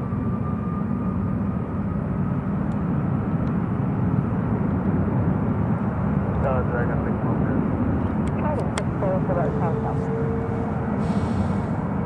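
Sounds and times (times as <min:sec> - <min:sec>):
distant jet engine rumble: 0:00.0 - 0:12.0.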